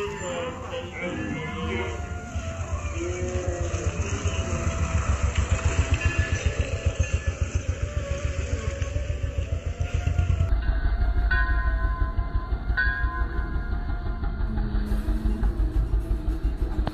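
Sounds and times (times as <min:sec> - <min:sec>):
motorcycle engine running: 0:01.8 - 0:16.9.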